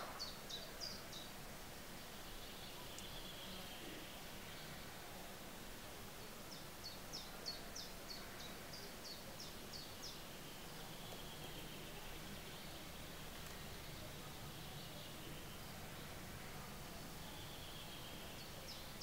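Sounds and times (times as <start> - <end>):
small songbird singing: 0.0 - 5.2, 6.1 - 19.0
steady outdoor hiss: 0.0 - 19.0.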